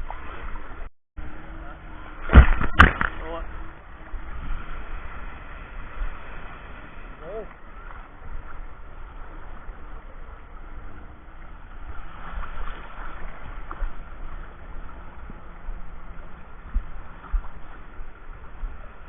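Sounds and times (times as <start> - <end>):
sea water sloshing: 0.0 - 19.0
wind buffeting microphone: 1.8 - 19.0.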